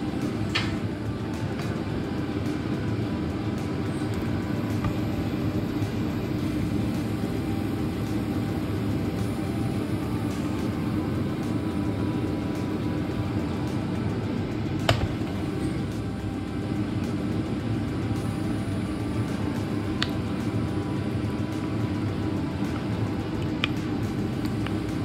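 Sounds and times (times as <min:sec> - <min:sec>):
low droning noise: 0:00.0 - 0:25.0.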